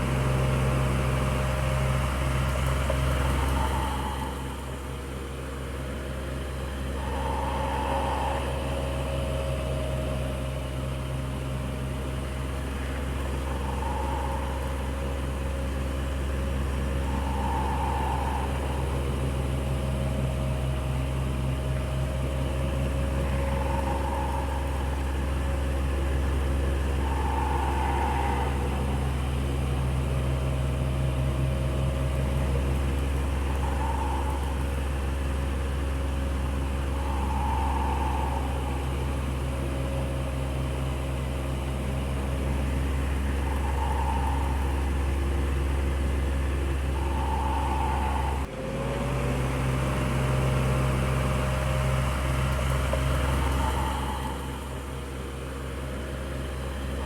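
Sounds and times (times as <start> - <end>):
electric fan motor hum: 0.0 - 48.5.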